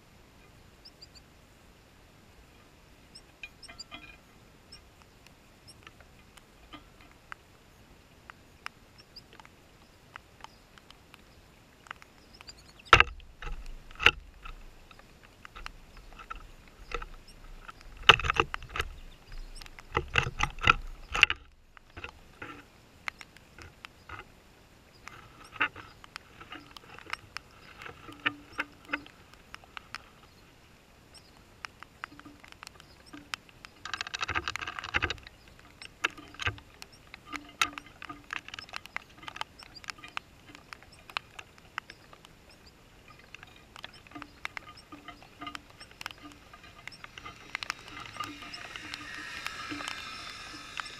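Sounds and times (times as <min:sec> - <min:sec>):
rain: 0:00.0 - 0:50.9
small taps and clicks: 0:08.2 - 0:24.3, 0:24.9 - 0:30.4, 0:31.1 - 0:50.9.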